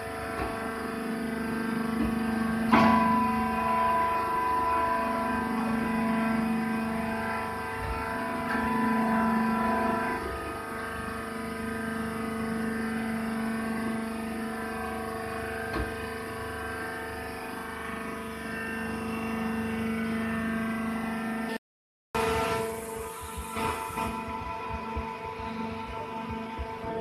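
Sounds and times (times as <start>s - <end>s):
hydraulic power unit humming: 0.0s - 21.6s, 22.2s - 27.0s.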